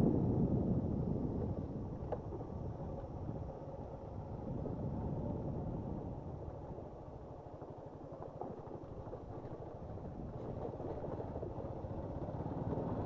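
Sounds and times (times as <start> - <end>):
motorcycle engine running: 0.2 - 13.0.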